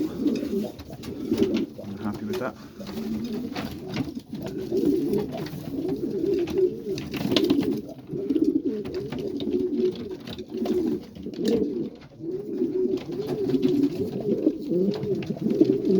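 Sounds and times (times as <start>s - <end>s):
pigeons cooing: 0.0s - 15.9s.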